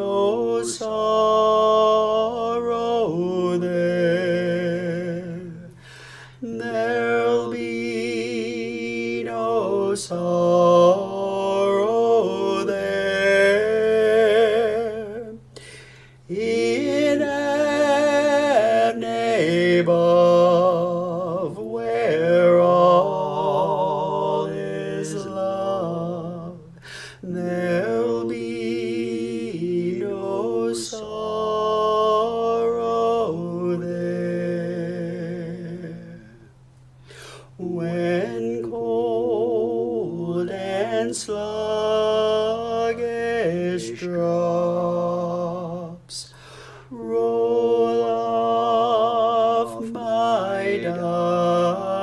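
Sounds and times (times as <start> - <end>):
male voices singing a hymn: 0.0 - 36.5, 37.1 - 52.0.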